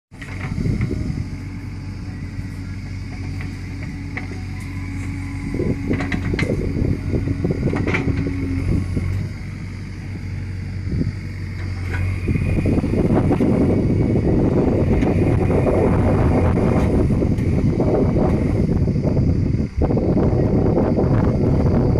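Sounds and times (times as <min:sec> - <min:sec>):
diesel engine running: 0:00.1 - 0:21.9.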